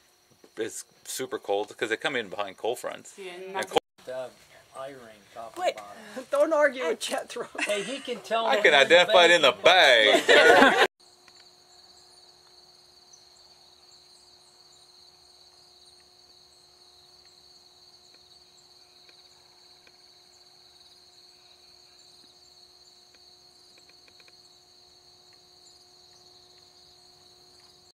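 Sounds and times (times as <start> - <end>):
crickets trilling: 0.0 - 27.9.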